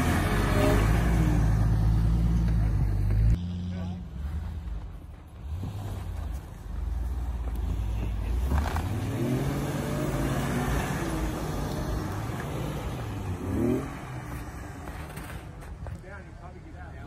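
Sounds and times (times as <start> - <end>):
vehicle engine revving: 0.0 - 15.8.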